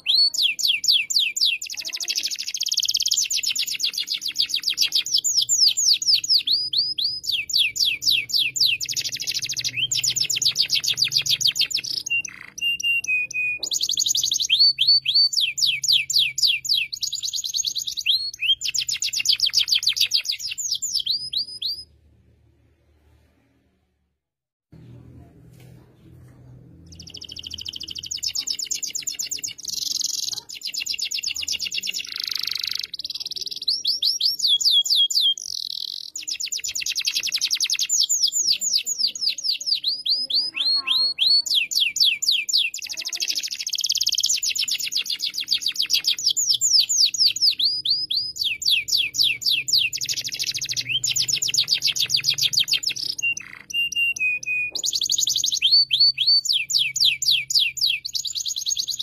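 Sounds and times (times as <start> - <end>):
canary singing trills: 0.0 - 21.9, 26.8 - 59.0.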